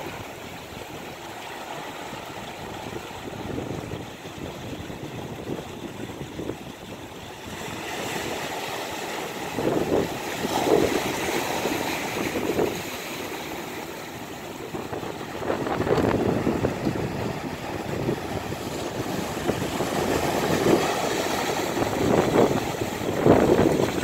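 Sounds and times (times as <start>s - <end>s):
waves washing over rocks: 0.0s - 24.0s.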